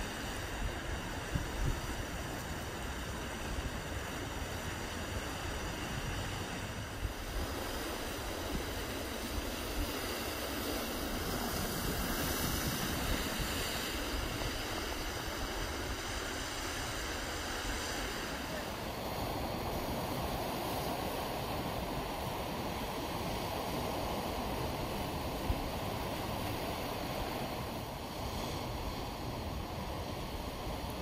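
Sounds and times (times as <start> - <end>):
surf washing over rocks: 0.0 - 31.0
wind rumbling on microphone: 0.0 - 31.0.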